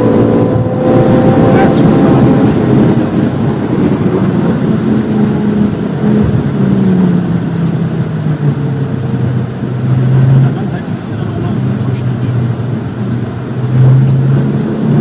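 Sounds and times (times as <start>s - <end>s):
car engine decelerating: 0.0s - 15.0s
road and wind noise: 0.0s - 15.0s.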